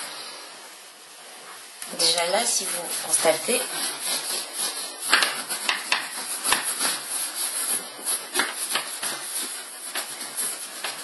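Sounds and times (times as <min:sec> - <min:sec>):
cloth rubbing on leather: 0:01.2 - 0:11.0.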